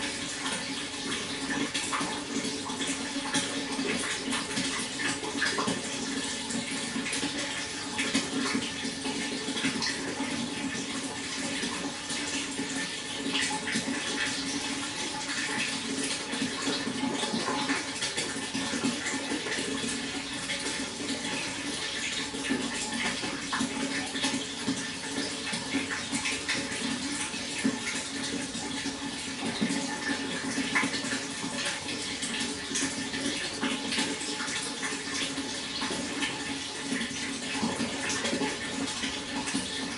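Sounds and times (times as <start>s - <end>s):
water flowing and splashing: 0.0s - 39.9s.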